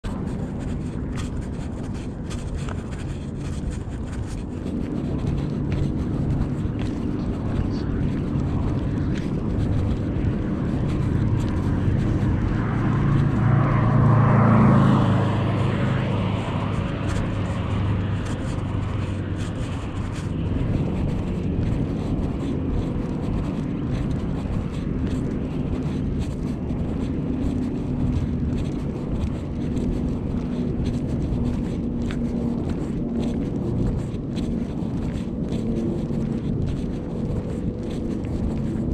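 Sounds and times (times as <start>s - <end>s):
low traffic rumble: 0.0s - 38.9s
vehicle passing: 0.0s - 38.9s.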